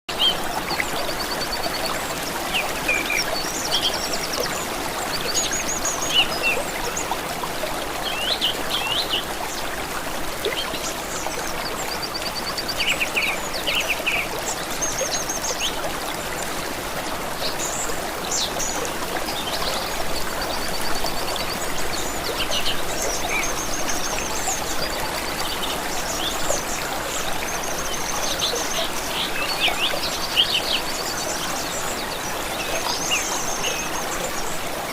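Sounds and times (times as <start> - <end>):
stream running: 0.1 - 34.9.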